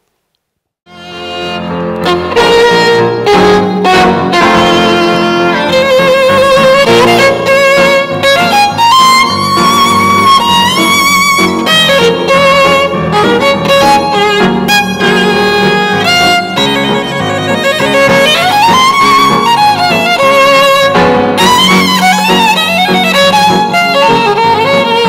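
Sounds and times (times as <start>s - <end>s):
solo violin melody: 0.8s - 25.0s.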